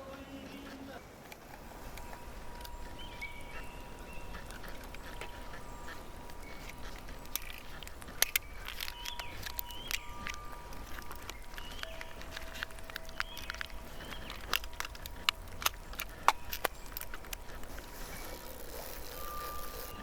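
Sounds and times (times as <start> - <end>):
birds chirping and whistling: 0.0 - 20.0
thin high tone: 0.0 - 20.0.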